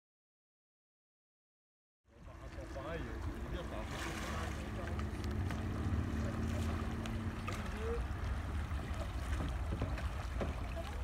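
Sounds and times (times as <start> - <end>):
faint kayak paddle splashes: 2.1 - 11.0.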